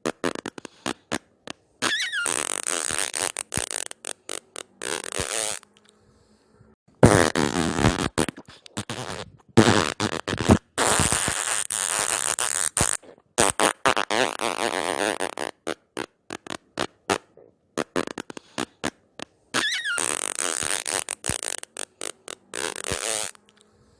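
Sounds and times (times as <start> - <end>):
fart sound effects: 0.0 - 5.7, 7.0 - 23.5.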